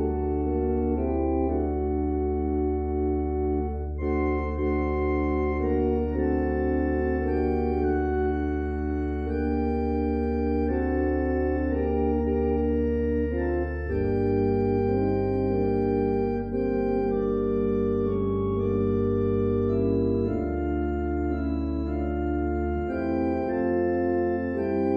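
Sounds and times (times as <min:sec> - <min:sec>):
organ playing slow chords: 0:00.0 - 0:24.9.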